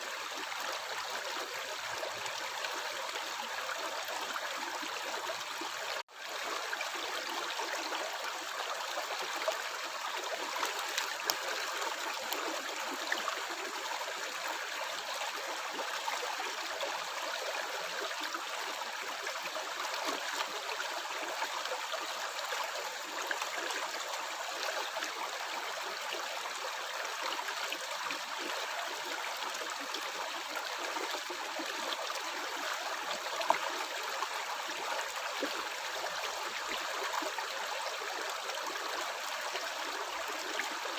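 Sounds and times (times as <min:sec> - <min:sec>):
stream running over rocks: 0:00.0 - 0:40.9.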